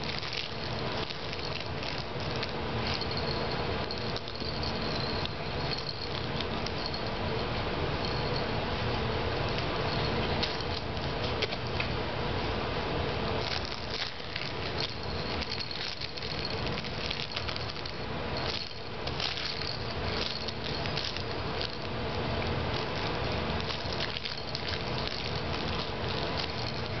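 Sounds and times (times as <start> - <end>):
toy rings clicking and rustling: 0.0 - 8.4, 9.6 - 11.8, 13.4 - 22.0, 22.7 - 27.0
faint steady hum: 0.0 - 27.0.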